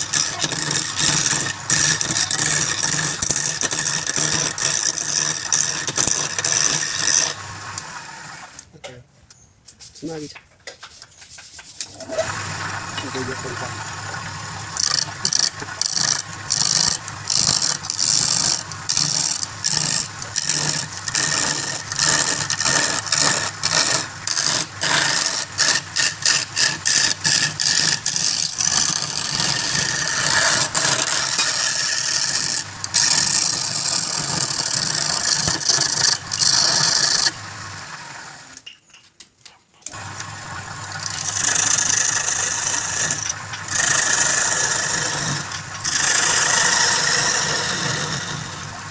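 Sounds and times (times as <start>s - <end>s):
wood lathe running: 0.0s - 8.6s, 11.9s - 38.6s, 39.9s - 48.9s
turning tool scraping wood: 0.0s - 8.7s, 9.7s - 38.7s, 39.9s - 48.9s.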